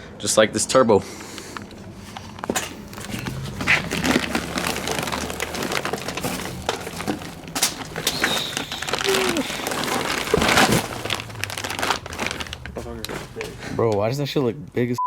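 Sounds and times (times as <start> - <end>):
packaging crinkling: 1.4 - 13.8.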